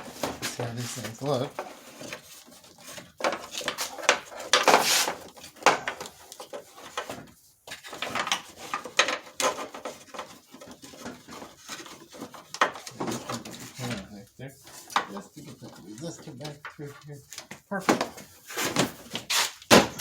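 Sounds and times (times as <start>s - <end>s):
rustling scrape: 0.0s - 19.7s.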